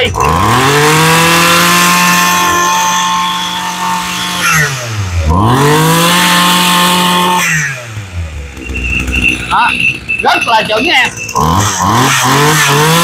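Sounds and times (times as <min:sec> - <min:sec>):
brush cutter engine revving: 0:00.0 - 0:09.2, 0:10.7 - 0:13.0.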